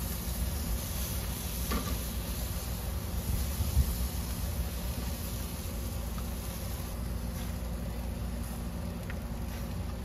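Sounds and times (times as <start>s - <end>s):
low rumble with hiss: 0.0s - 10.0s.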